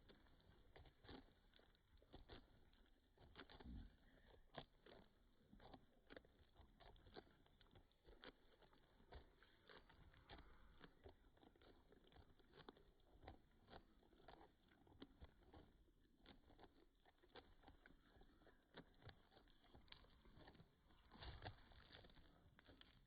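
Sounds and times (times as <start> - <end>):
chickens pecking: 0.0 - 23.0.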